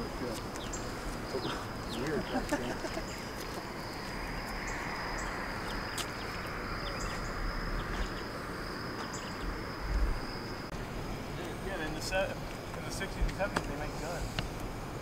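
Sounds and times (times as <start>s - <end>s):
background hiss: 0.0s - 15.0s
insects trilling: 0.0s - 15.0s.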